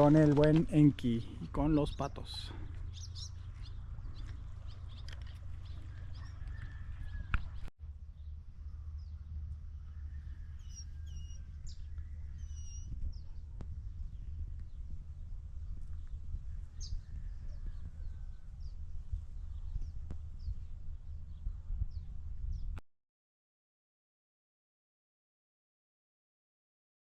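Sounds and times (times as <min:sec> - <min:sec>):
small birds chirping: 0:00.0 - 0:22.8
steady low rumble: 0:00.0 - 0:22.8.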